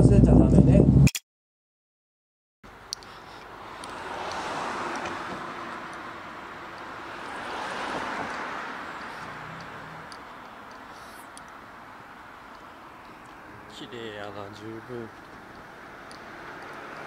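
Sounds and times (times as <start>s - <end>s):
cars passing: 2.7s - 17.0s.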